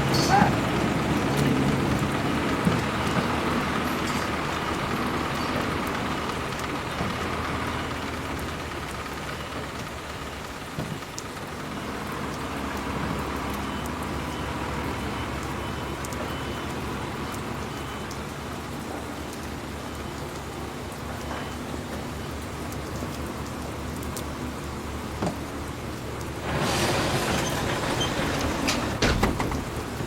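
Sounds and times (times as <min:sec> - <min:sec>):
heavy rain pattering: 0:00.0 - 0:30.0.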